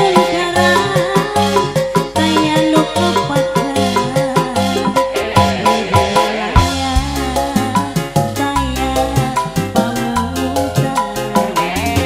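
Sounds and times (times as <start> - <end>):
hand drums: 0.0 - 10.0
electronic keyboard: 0.0 - 12.0
woman singing into microphone: 0.0 - 12.0.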